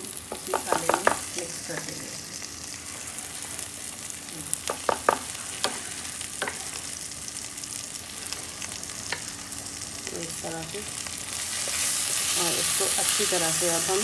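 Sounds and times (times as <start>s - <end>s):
masala sizzling in a pan: 0.0s - 14.0s.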